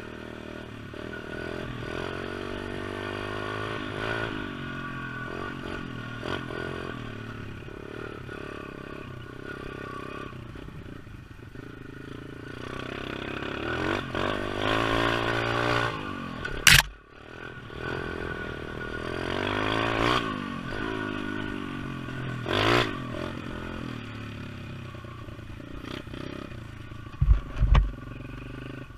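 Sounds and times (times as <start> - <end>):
small motorbike engine revving: 0.0 - 28.9.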